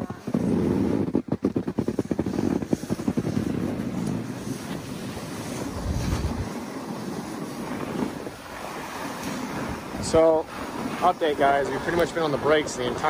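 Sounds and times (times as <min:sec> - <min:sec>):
snowboard sliding over snow: 0:00.0 - 0:13.0
wind buffeting microphone: 0:00.0 - 0:13.0.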